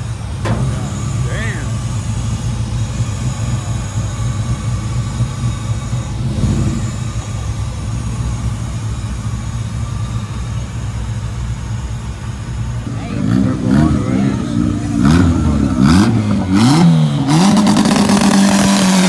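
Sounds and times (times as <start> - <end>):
pickup truck engine rumbling: 0.0 - 19.0.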